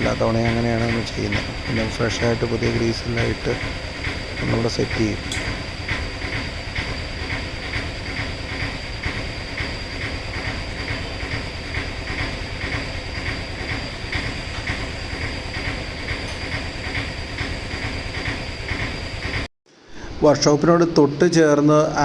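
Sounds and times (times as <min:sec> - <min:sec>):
pulsing machinery rumble: 0:00.0 - 0:20.2
steady high machine whine: 0:00.0 - 0:22.0.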